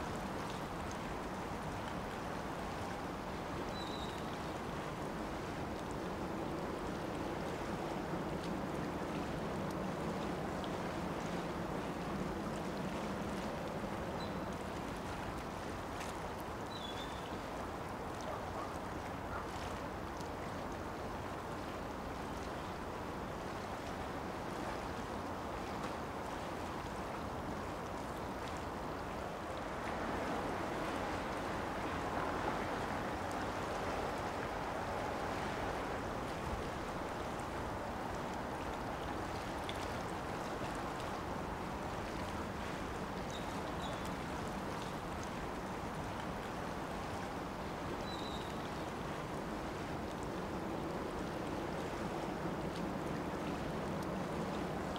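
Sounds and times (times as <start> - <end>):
water noise: 0.0 - 54.9
wind: 0.0 - 54.9.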